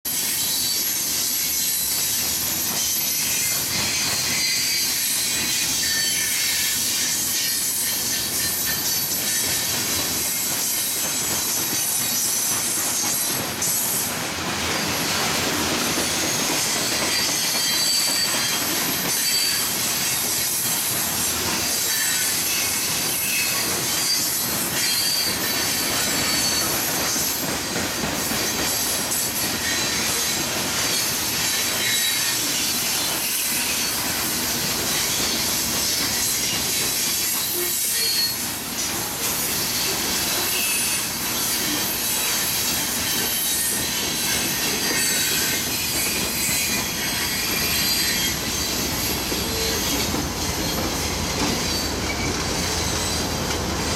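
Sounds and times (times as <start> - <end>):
rumble and clatter of rolling train: 0.1 - 53.9
train wheels squealing on rails: 0.1 - 53.9.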